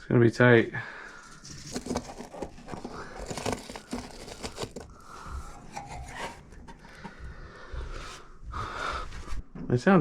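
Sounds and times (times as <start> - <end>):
rustling and crinkling handling noise: 0.4 - 9.8.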